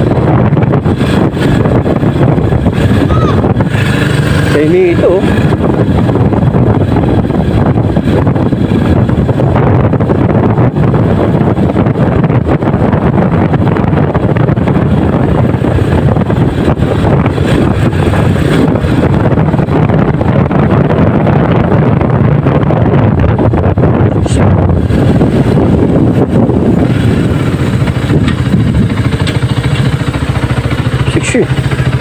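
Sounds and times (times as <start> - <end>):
motorcycle engine: 0.0 - 32.0
road noise: 0.0 - 32.0
wind rumble on microphone: 0.0 - 32.0.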